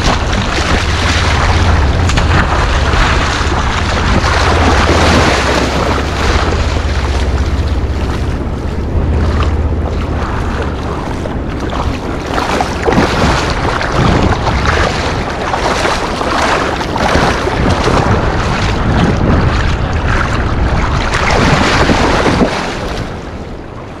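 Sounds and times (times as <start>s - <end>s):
low rumble: 0.0s - 24.0s
rushing water: 0.0s - 24.0s
wind buffeting microphone: 0.0s - 24.0s.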